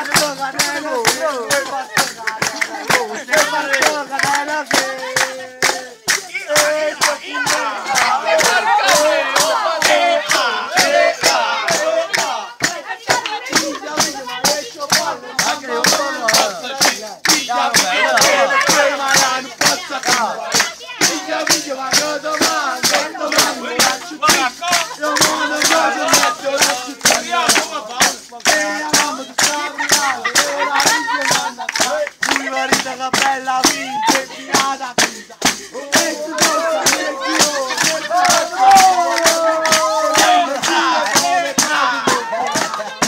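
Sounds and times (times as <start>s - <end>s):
steady percussive beat: 0.0s - 43.0s
voices singing folk song: 0.0s - 43.0s.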